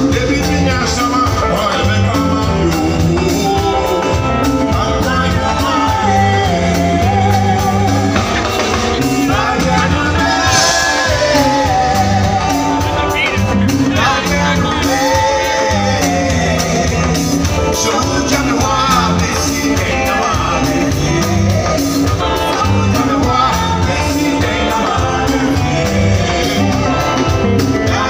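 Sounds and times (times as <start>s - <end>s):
lead vocalist singing: 0.0s - 28.0s
reggae band playing: 0.0s - 28.0s.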